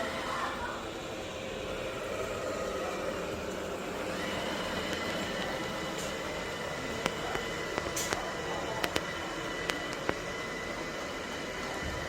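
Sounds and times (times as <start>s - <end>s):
robot vacuum motor whirring: 0.0s - 12.0s.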